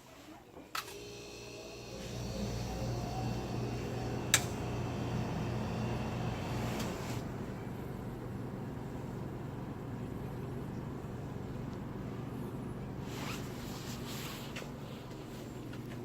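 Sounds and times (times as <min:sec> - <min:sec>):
refrigerator compressor hum: 0:01.0 - 0:16.0.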